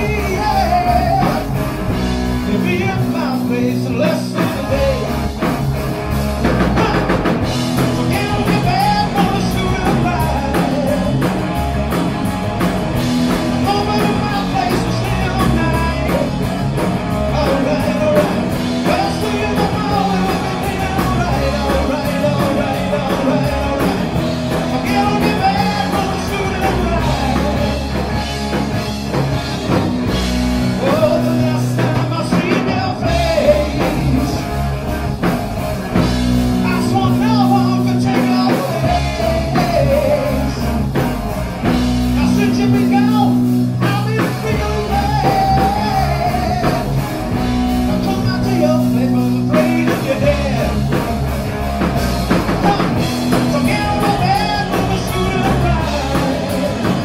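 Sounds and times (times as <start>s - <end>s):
man singing: 0.0s - 5.7s, 6.4s - 11.6s, 13.2s - 28.7s, 30.6s - 51.1s, 51.8s - 57.0s
distorted electric guitars: 0.0s - 57.0s
drum kit: 0.0s - 57.0s
electric bass: 0.0s - 57.0s.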